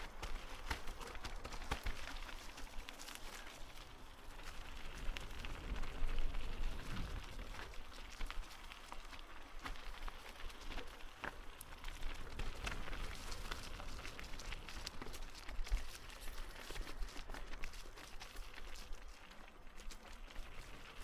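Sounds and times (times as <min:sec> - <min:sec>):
footsteps crunching on dirt path: 0:00.0 - 0:21.0.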